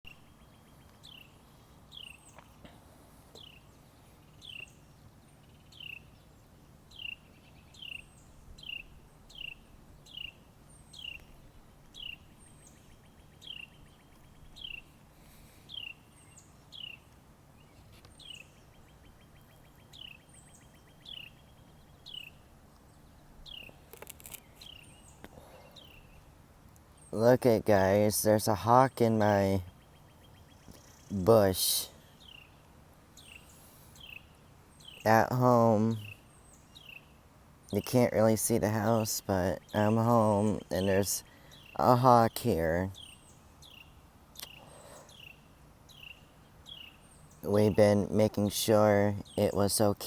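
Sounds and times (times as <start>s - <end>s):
faint buzzy bird trill: 0.0s - 50.0s.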